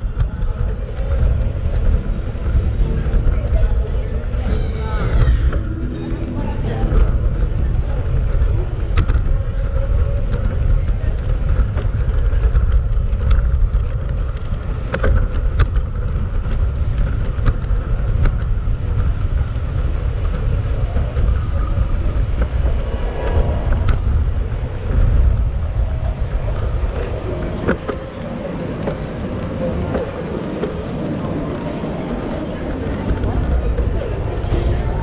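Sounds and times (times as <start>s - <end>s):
low street rumble: 0.0s - 35.0s
passing traffic: 0.0s - 35.0s.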